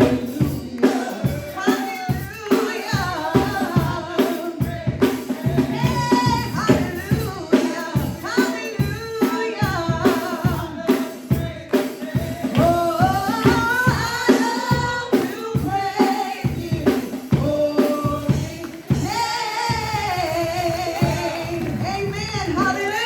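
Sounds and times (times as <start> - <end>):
drum kit beat: 0.0 - 23.0
voices singing: 0.0 - 23.0.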